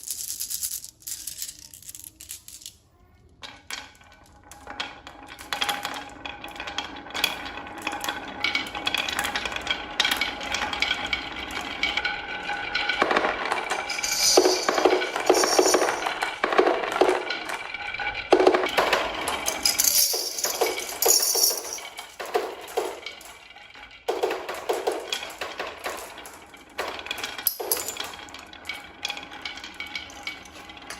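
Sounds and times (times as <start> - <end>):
marbles rolling on wooden track: 0.0 - 2.8, 3.4 - 30.9.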